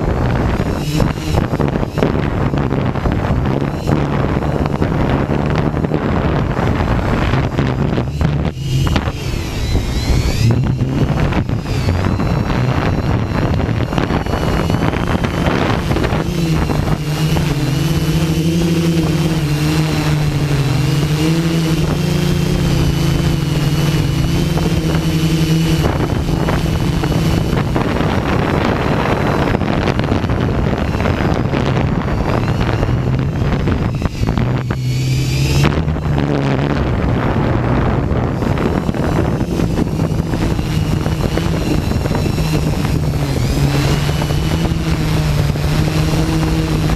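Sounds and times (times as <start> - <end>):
drone motors and propellers humming: 0.0 - 46.9
wind buffeting microphone: 0.0 - 46.9.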